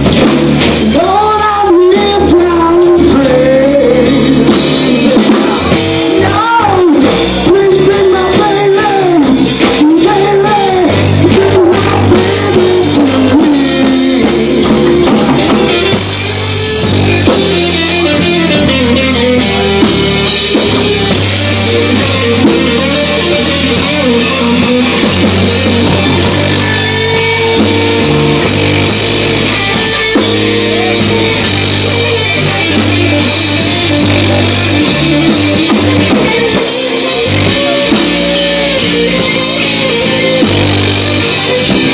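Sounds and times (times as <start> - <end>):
drum kit: 0.0 - 41.9
electric bass: 0.0 - 41.9
electric guitar lead: 0.0 - 41.9.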